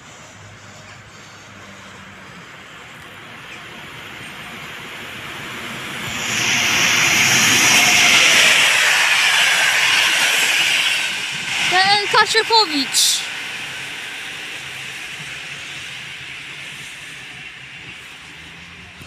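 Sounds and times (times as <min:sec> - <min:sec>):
express train passing at speed: 0:00.0 - 0:19.0.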